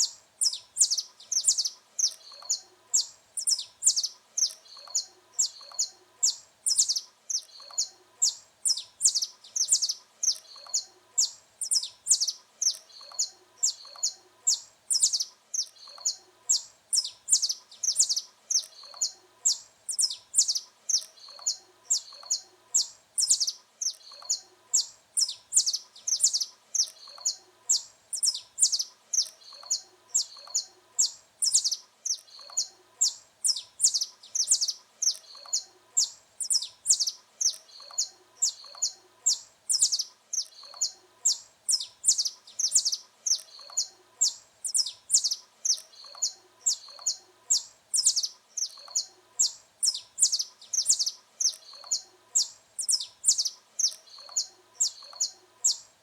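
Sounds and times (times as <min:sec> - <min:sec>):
finch chirping song: 0:00.0 - 0:56.0.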